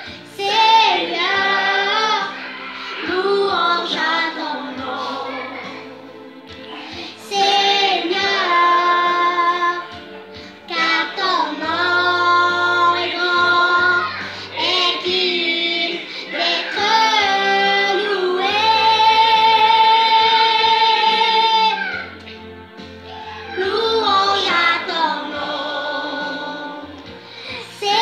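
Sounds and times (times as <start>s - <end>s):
girl singing: 0.0s - 6.0s, 7.1s - 10.0s, 10.7s - 22.0s, 23.4s - 26.9s, 27.5s - 28.0s.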